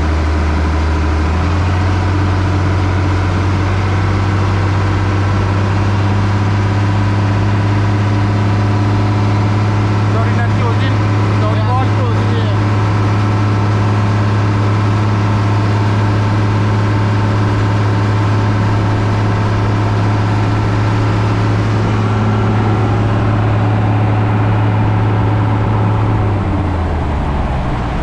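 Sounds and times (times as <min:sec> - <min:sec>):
boat engine running: 0:00.0 - 0:28.0
churning wake rushing: 0:00.0 - 0:28.0.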